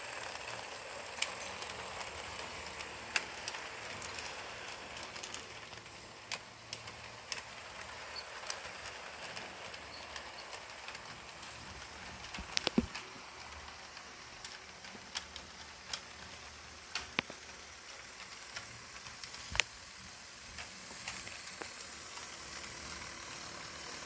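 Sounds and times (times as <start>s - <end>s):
model train wheels and motor hiss: 0.0s - 24.0s.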